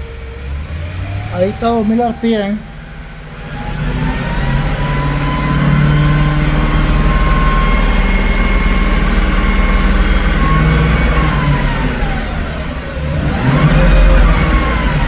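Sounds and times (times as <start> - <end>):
van engine running with misfire: 0.0 - 15.0.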